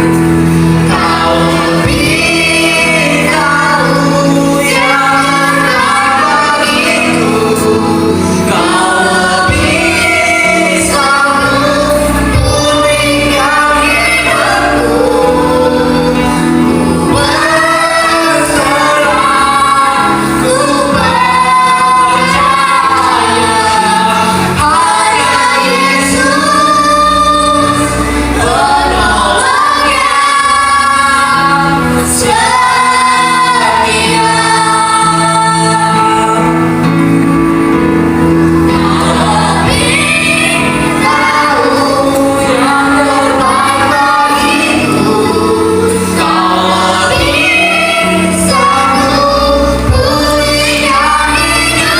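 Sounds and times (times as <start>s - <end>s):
band accompaniment: 0.0s - 51.9s
group of people singing: 0.0s - 51.9s.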